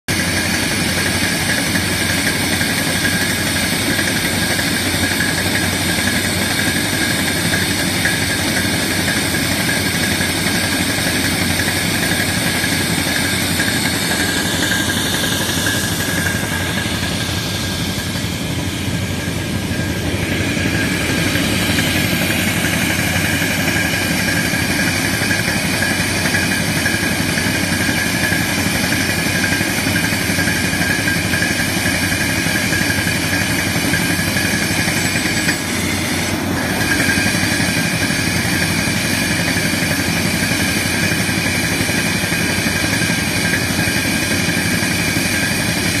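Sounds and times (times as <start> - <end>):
drill working into rocky ground: 0.1 - 46.0
drilling machine engine running: 0.1 - 46.0.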